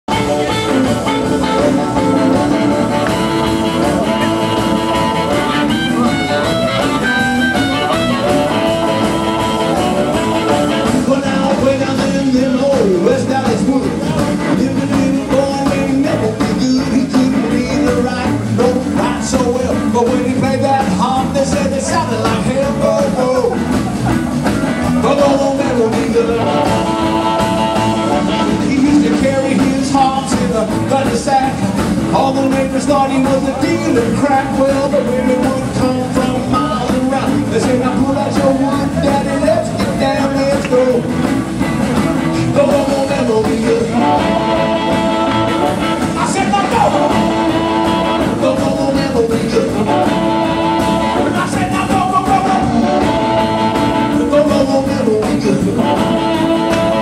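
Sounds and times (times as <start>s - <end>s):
electric blues band playing: 0.0s - 57.0s
harmonica notes: 0.1s - 21.2s, 24.2s - 31.0s, 33.6s - 57.0s.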